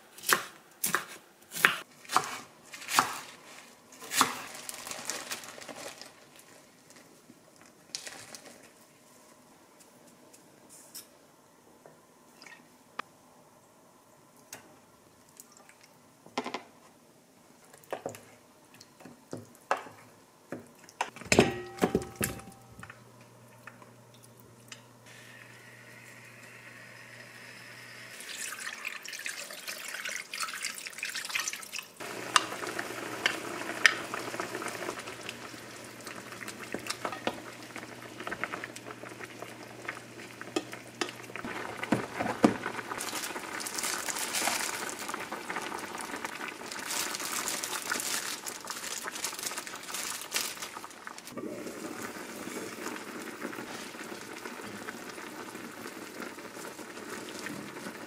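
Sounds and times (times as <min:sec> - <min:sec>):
braise simmering and bubbling: 0:01.8 - 0:09.6, 0:14.2 - 0:58.0.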